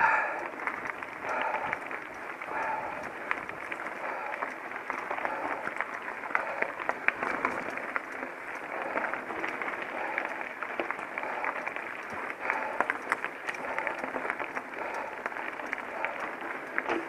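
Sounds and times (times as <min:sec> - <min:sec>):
bike clicks and rattles: 0:00.0 - 0:17.0
bike tyres crunching on gravel: 0:00.0 - 0:17.0.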